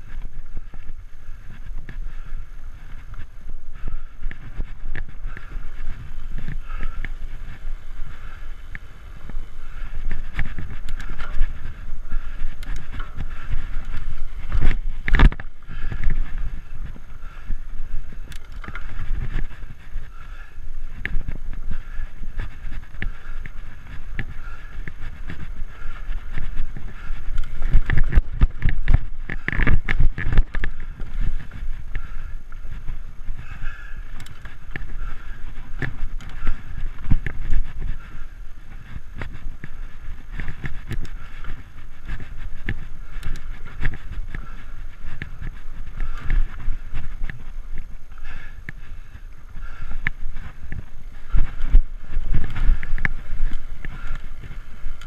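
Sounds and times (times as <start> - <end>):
bike rattling over bumps: 0.0 - 55.0
tyres rumbling on dirt trail: 0.0 - 55.0.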